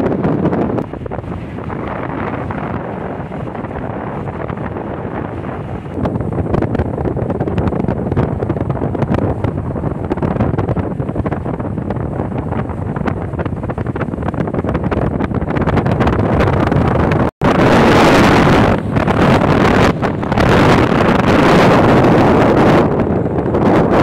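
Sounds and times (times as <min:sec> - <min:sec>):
boat and water rumble: 0:00.0 - 0:24.0
wind buffeting microphone: 0:00.0 - 0:24.0.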